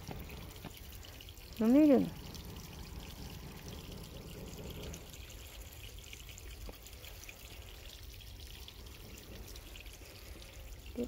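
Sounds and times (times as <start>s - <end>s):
water trickling into stone basin: 0.0s - 11.0s.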